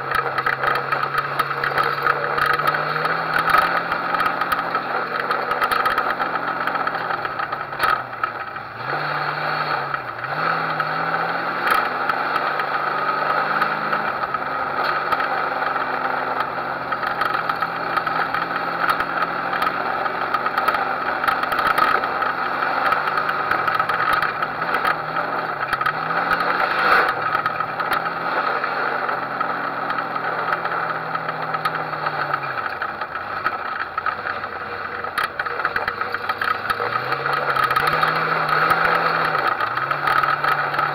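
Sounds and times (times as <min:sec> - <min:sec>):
noisy rush: 0:00.0 - 0:40.9
race car engine revving: 0:00.0 - 0:40.9
sharp knocks and rattles: 0:00.0 - 0:40.9.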